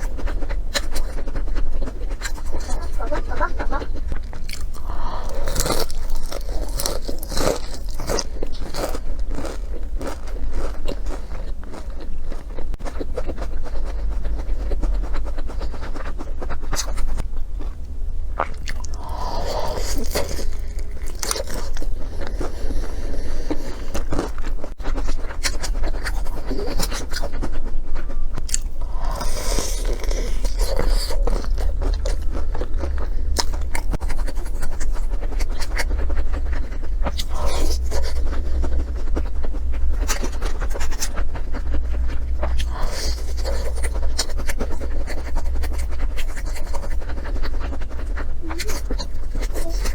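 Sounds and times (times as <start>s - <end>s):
chewing and crunching: 0.0s - 49.9s
steady low hum: 0.0s - 49.9s.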